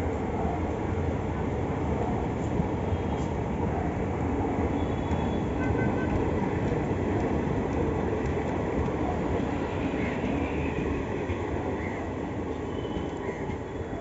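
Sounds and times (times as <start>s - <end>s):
train coaches rolling past: 0.0s - 14.0s.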